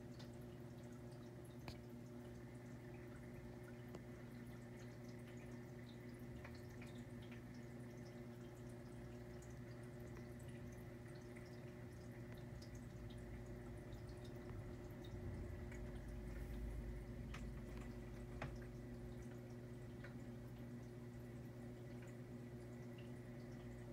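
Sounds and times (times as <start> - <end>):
aquarium filter humming: 0.0 - 23.9
water trickling and dripping: 0.0 - 23.9.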